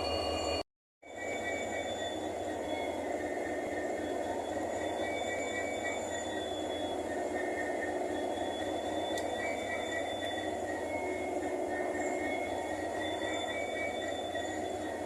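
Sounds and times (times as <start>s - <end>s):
high whining tones: 0.0s - 15.0s
train rumbling on rails: 0.0s - 15.0s.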